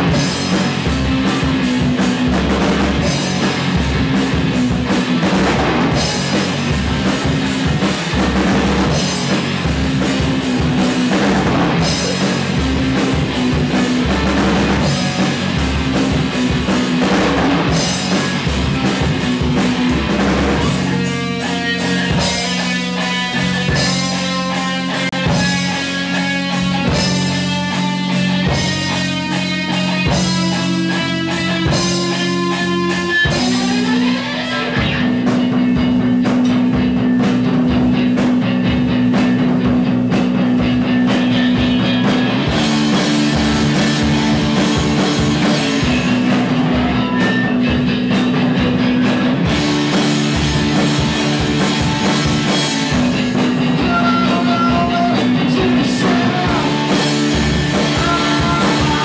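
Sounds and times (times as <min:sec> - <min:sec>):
bass guitar: 0:00.0 - 0:59.0
drums hitting hard: 0:00.0 - 0:59.0
electric guitars: 0:00.0 - 0:59.0.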